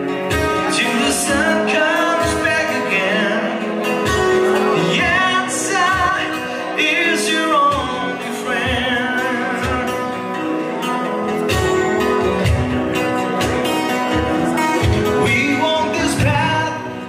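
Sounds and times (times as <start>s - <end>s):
acoustic guitar strumming: 0.0s - 17.0s
man singing rock ballad: 0.0s - 17.0s.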